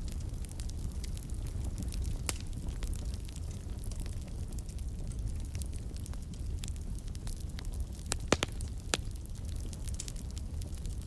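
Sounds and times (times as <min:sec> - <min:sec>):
fire crackling and popping: 0:00.0 - 0:11.0
fire flames rumbling: 0:00.0 - 0:11.0.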